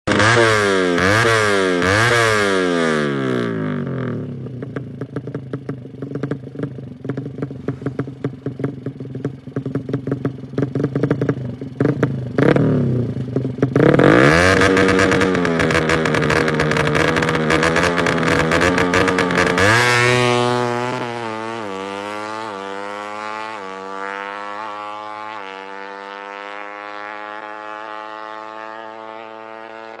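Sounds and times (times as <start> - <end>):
motorcycle engine revving: 0.0 - 30.0
engine crackling and popping: 3.4 - 30.0.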